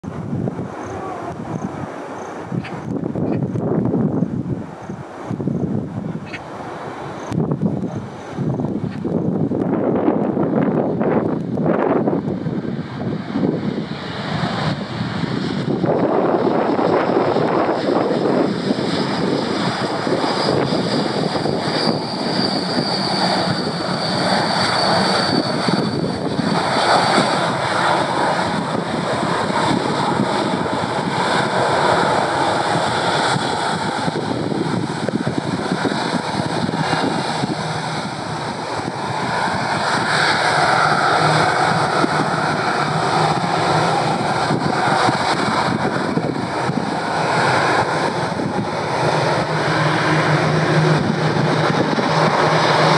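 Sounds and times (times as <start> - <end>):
high engine whine: 0.0 - 52.9
jet engine rush: 0.0 - 52.9.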